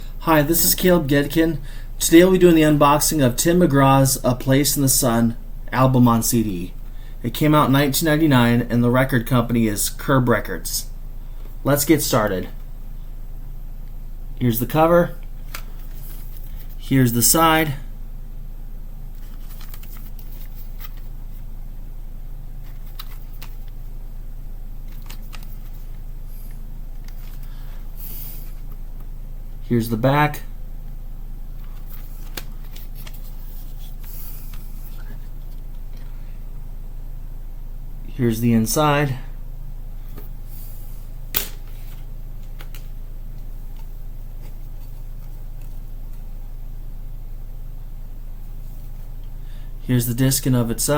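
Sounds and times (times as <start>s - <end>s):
low electrical hum: 0.0s - 50.9s.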